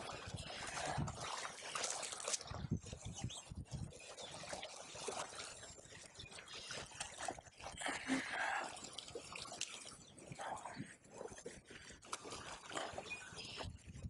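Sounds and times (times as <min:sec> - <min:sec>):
river water trickling: 0:00.0 - 0:13.9
water splashing: 0:00.0 - 0:14.0.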